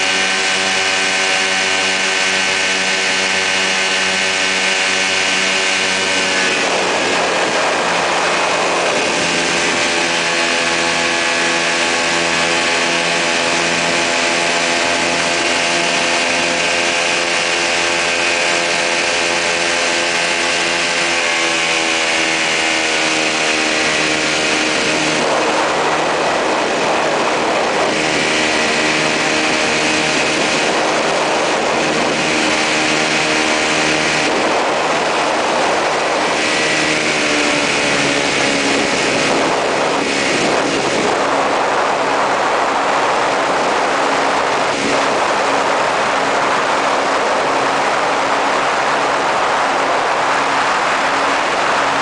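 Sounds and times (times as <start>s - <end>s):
ultralight aircraft engine and propeller: 0.0s - 52.0s
wind rushing over microphone: 0.0s - 52.0s.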